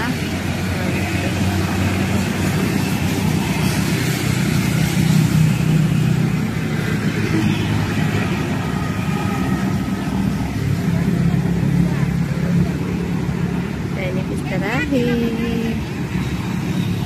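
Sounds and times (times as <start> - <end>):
motor scooters passing: 0.0 - 17.0
traffic engine hum: 0.0 - 17.0.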